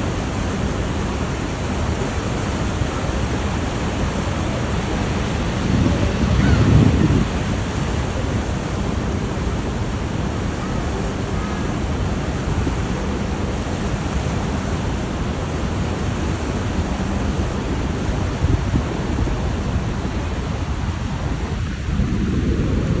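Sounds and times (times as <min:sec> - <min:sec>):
river rapids rushing: 0:00.0 - 0:21.8.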